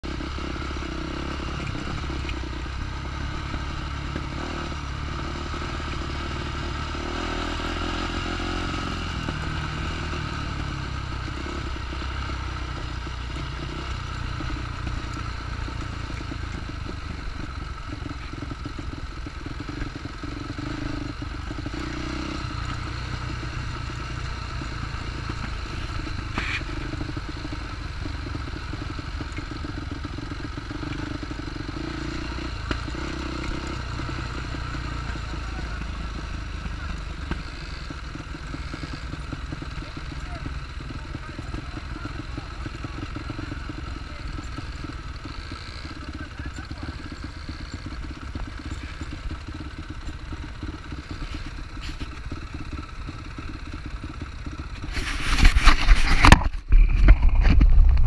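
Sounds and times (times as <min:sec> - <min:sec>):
dirt bike engines running: 0:00.0 - 0:58.0.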